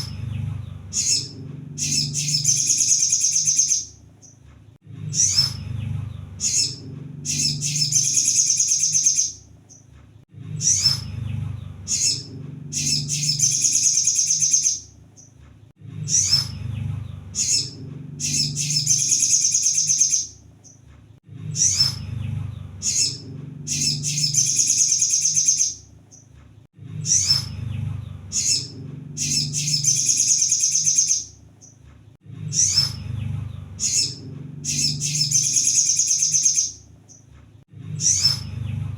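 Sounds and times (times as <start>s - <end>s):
bird trilling and chirping: 0.0s - 4.4s, 5.1s - 9.9s, 10.6s - 15.4s, 16.0s - 20.8s, 21.5s - 26.3s, 27.0s - 31.8s, 32.5s - 37.3s, 38.0s - 38.8s.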